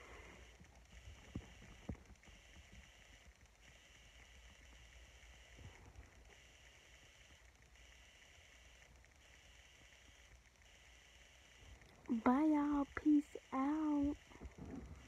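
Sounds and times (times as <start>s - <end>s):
faint low hum: 0.0s - 15.0s
faint pulsing high hiss: 0.0s - 15.0s.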